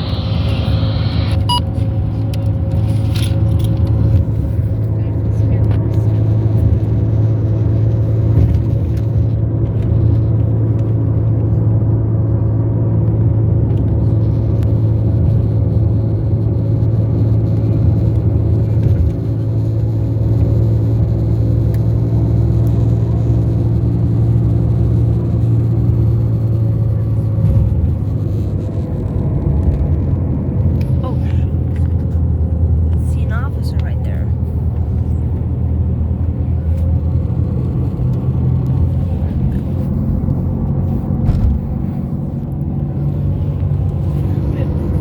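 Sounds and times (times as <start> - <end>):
loud steady low hum: 0.0 - 45.0.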